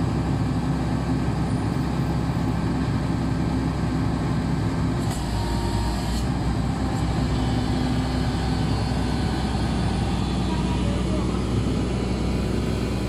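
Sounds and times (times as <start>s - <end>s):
drilling rig engine running: 0.0s - 13.0s.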